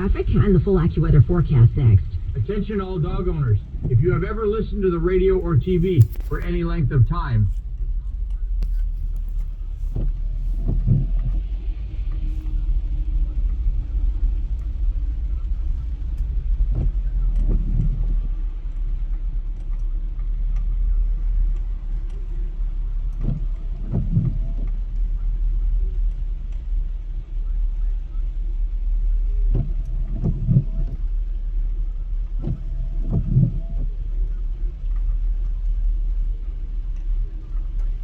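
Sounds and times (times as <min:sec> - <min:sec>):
car road rumble inside cabin: 0:00.0 - 0:38.0
soft low thumps: 0:00.0 - 0:38.0.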